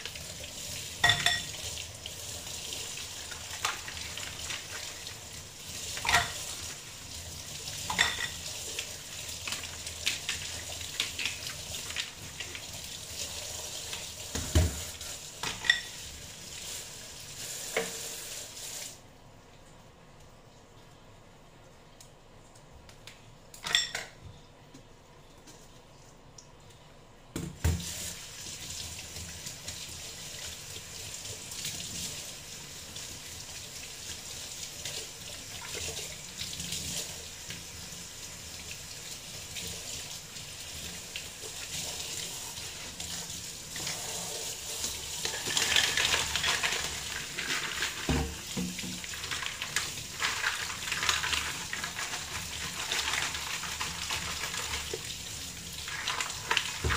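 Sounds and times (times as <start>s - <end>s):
tap water running into colander: 0.0s - 19.0s, 27.4s - 56.9s.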